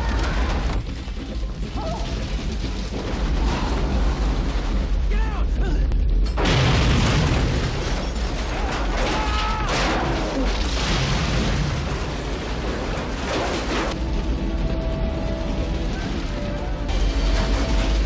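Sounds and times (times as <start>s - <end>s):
ship crashing and rumbling: 0.0s - 18.0s.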